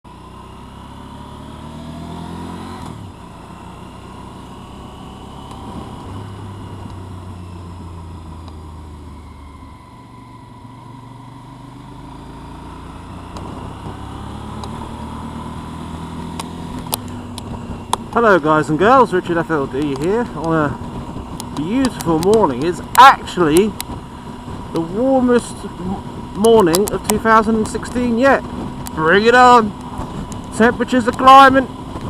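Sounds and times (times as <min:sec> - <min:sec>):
motorcycle engine revving: 0:00.1 - 0:32.0.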